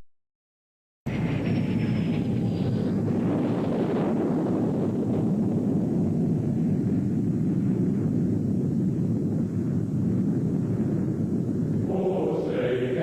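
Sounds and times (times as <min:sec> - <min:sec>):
steady low rumbling: 0:01.1 - 0:13.0.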